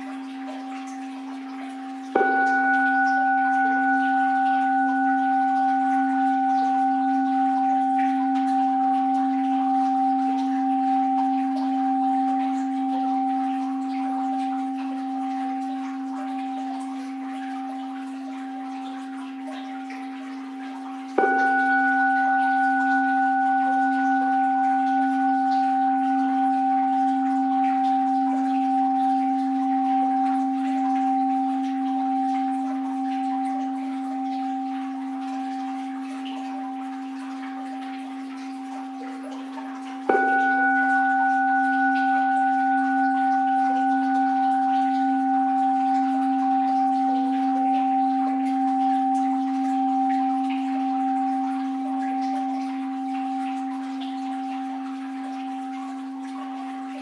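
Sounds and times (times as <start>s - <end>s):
bowl bell ringing: 0.0s - 57.0s.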